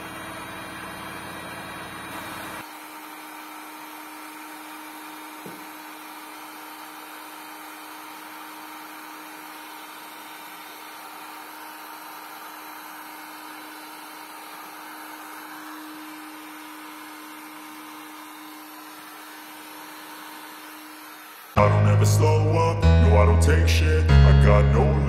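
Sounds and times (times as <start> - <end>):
heat gun fan humming: 0.0 - 21.9.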